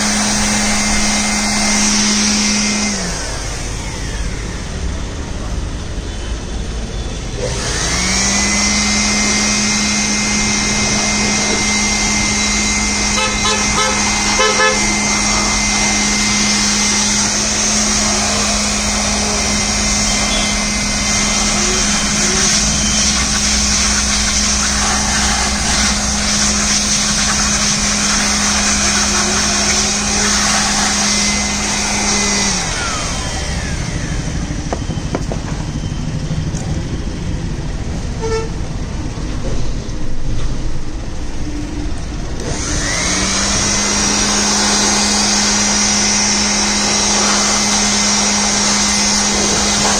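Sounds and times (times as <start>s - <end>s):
rush of air: 0.0s - 4.4s, 9.0s - 49.9s
electric air blower motor whining: 0.0s - 5.9s, 7.2s - 39.3s, 40.8s - 49.9s.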